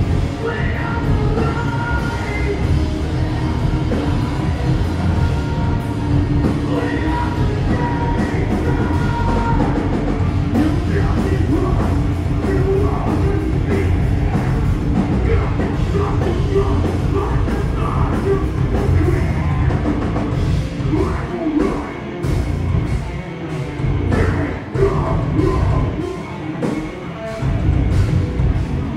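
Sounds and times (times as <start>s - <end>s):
person singing and yelling: 0.0s - 20.1s, 20.7s - 22.3s, 24.1s - 26.6s
drum kit: 0.0s - 28.9s
heavy guitars: 0.0s - 28.9s.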